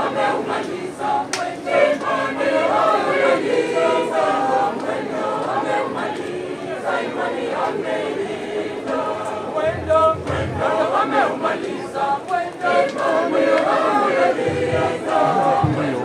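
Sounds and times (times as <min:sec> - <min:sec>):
group of people singing: 0:00.0 - 0:16.0.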